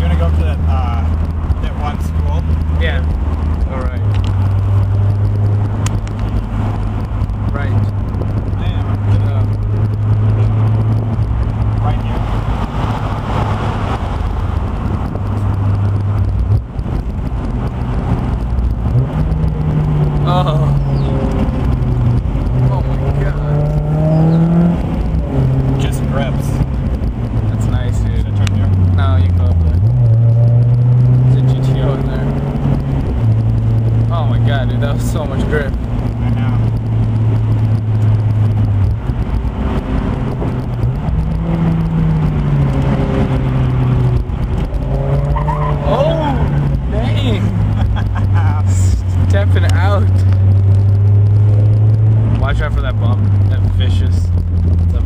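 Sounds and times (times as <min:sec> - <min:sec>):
car engine under load: 0:00.0 - 0:55.0.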